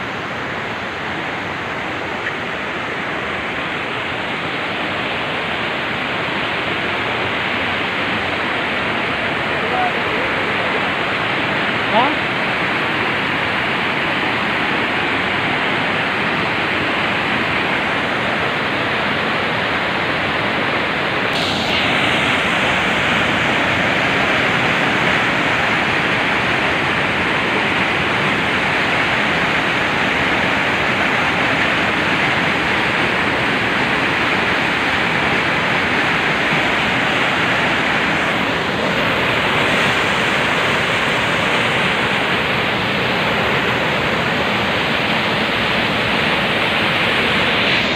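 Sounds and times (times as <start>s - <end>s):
river rushing over boulders: 0.0s - 47.9s.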